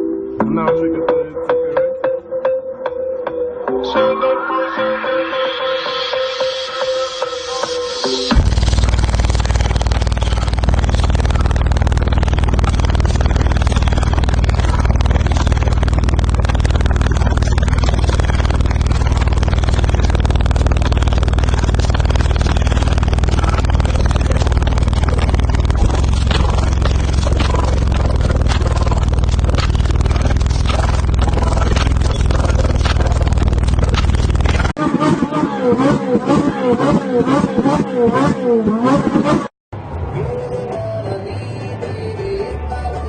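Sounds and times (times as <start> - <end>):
car engine and road rumble: 7.9 - 43.0.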